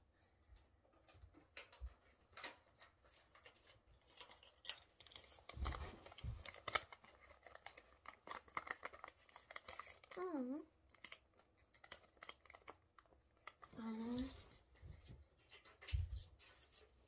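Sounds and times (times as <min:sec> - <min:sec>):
paper rustling and crinkling: 0:01.3 - 0:17.0.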